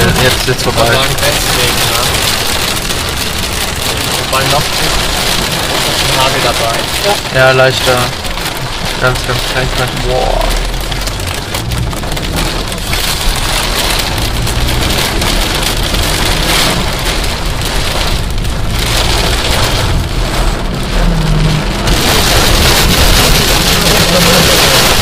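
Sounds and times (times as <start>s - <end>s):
heavy rain with hail falling: 0.0s - 25.0s.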